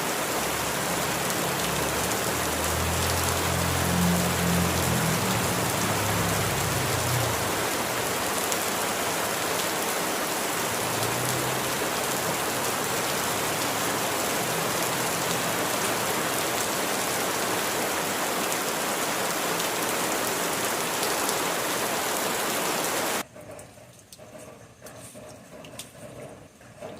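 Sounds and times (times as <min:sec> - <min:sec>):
steady rain: 0:00.0 - 0:23.3.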